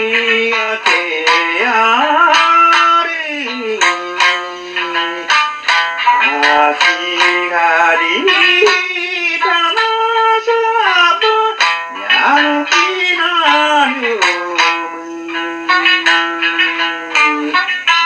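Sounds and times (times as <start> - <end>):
man singing folk song: 0.0 - 18.0
plucked lute notes: 0.0 - 18.0.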